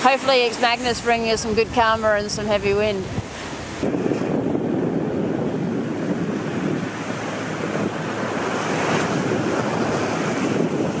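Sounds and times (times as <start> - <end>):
seawater rushing past boat: 0.0 - 11.0
wind buffeting microphone: 0.1 - 11.0.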